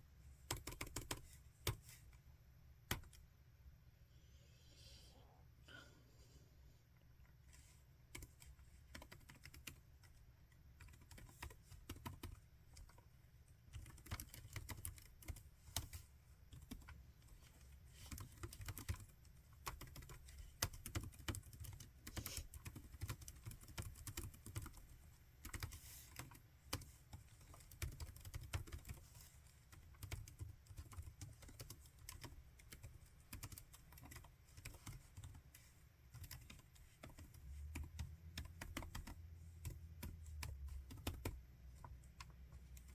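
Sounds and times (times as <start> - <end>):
laptop keyboard typing: 0.4 - 2.0, 2.8 - 3.3, 7.5 - 42.9.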